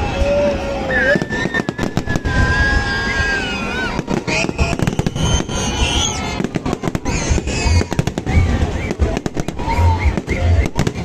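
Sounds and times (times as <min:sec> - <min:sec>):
crowd voices: 0:00.0 - 0:11.0
fireworks bangs and crackles: 0:00.8 - 0:11.0.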